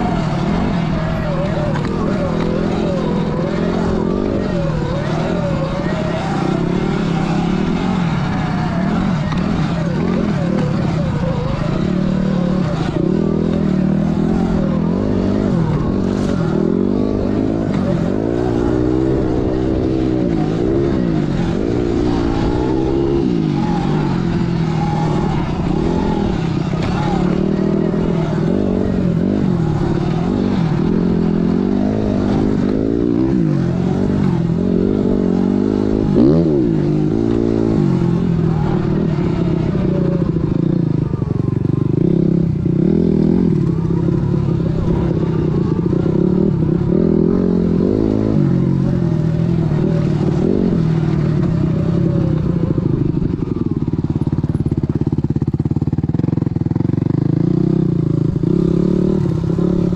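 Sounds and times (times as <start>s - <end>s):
riding noise: 0.0s - 59.9s.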